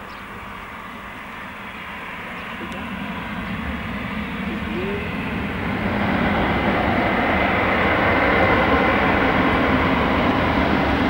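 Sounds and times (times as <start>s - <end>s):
high whine: 0.0s - 11.0s
jet engines running: 0.0s - 11.0s.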